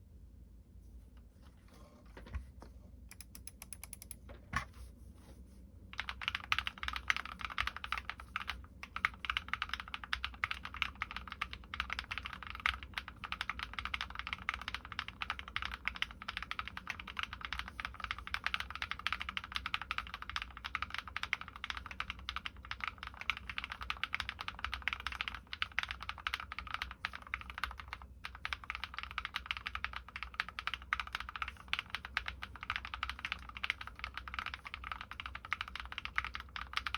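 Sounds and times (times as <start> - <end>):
typing on mechanical keyboard: 3.1 - 4.2, 5.9 - 36.9.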